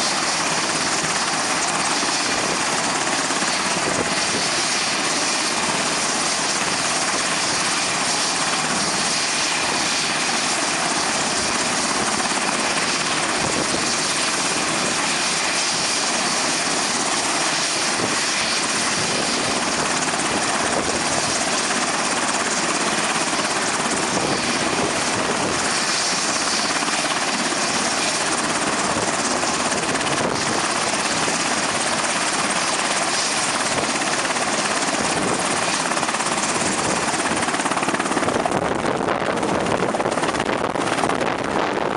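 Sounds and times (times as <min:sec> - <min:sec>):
model helicopter rotor whir: 0:00.0 - 0:41.9.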